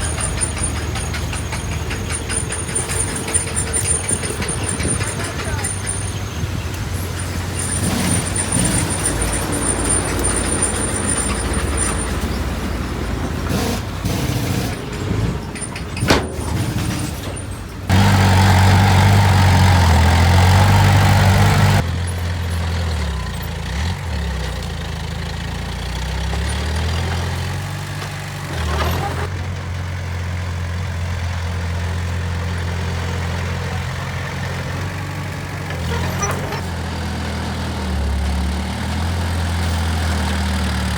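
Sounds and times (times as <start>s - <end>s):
heavy diesel machinery engines: 0.0s - 40.9s
loud engine roaring: 0.0s - 40.9s.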